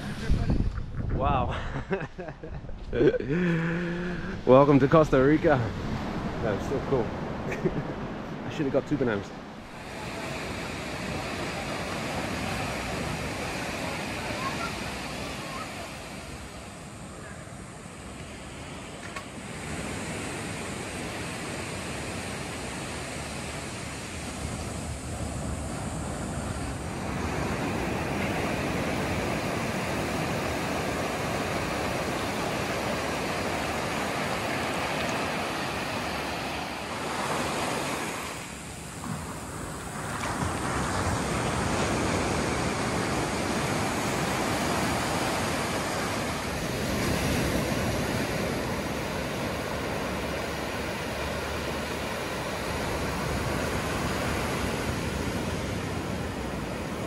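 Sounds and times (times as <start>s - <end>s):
small waves breaking on beach: 3.8s - 57.0s.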